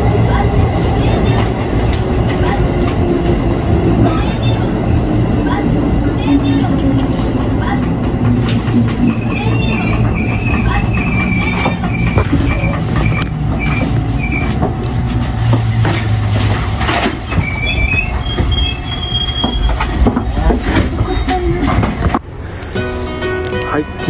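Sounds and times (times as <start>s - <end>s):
train wheels rumbling on track: 0.0s - 22.8s.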